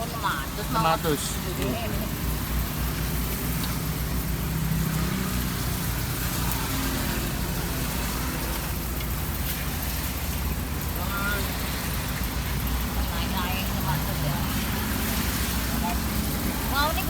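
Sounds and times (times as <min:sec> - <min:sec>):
traffic hum: 0:00.0 - 0:17.0
vehicle engine running: 0:00.0 - 0:17.0.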